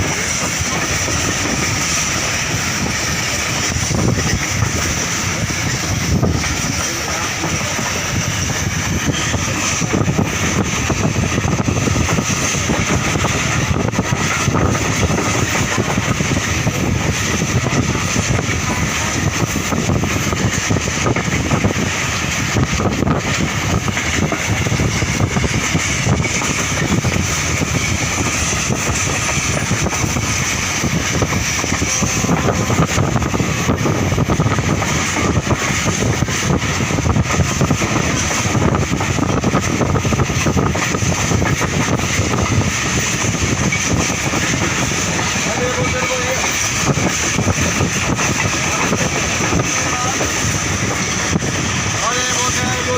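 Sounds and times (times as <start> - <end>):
moving train rumble: 0.0 - 52.9
wind buffeting microphone: 0.0 - 52.9.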